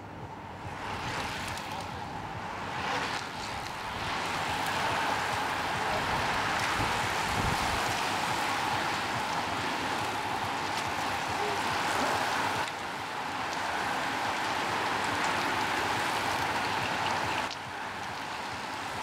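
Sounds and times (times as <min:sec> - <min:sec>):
bicycle tyres hissing on tarmac: 0:00.7 - 0:19.0.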